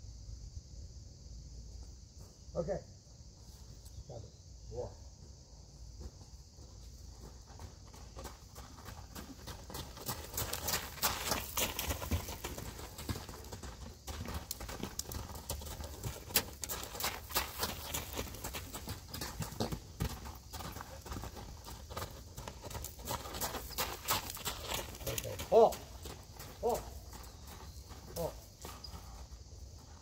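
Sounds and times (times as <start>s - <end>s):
horse hoofbeats on gravel: 5.3s - 30.0s.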